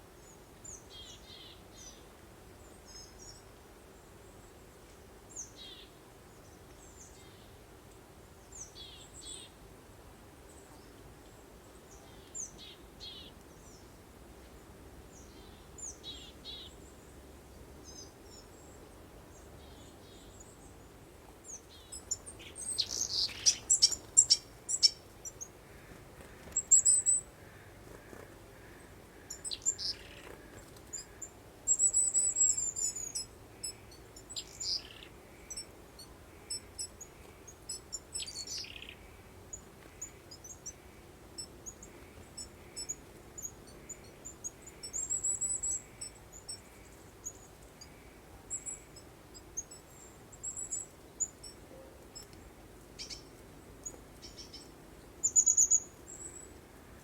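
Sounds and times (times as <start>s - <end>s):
faint steady hiss: 0.0s - 57.0s
songbirds chirping: 0.0s - 57.0s.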